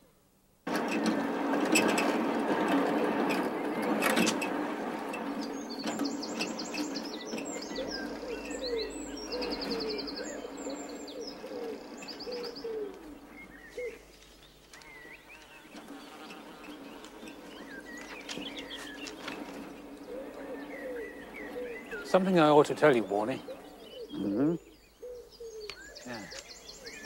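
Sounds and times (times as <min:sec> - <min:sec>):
birds trilling and chirping: 0:00.7 - 0:27.0
low repeated bird call: 0:00.7 - 0:27.0.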